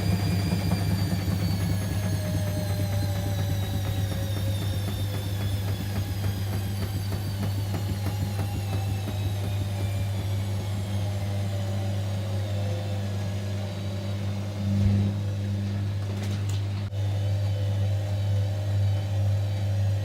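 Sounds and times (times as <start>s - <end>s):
constant low hum: 0.0s - 20.0s
washing machine motor whining down: 0.0s - 20.0s.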